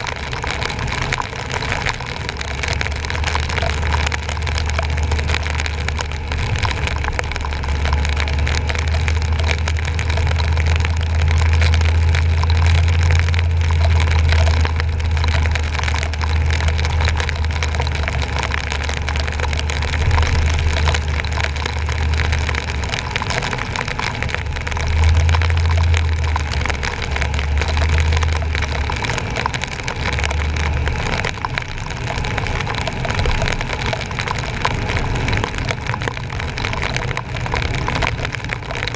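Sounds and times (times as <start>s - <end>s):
rain and water spray hiss: 0.0s - 38.9s
truck engine and road rumble: 0.0s - 38.9s.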